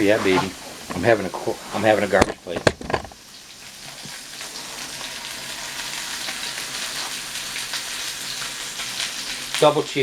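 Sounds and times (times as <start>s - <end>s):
burger patty sizzling: 0.0s - 10.0s.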